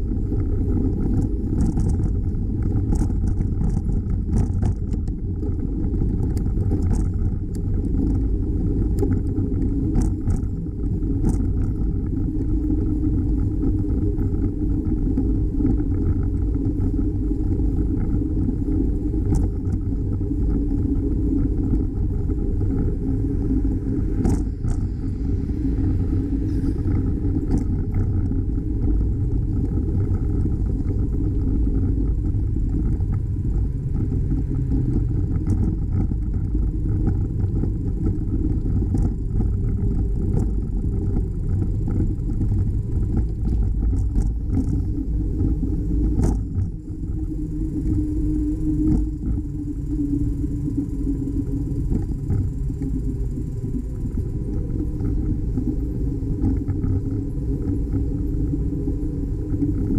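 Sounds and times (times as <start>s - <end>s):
faint bicycle rattles: 0.0s - 59.9s
wind and road rumble: 0.0s - 59.9s.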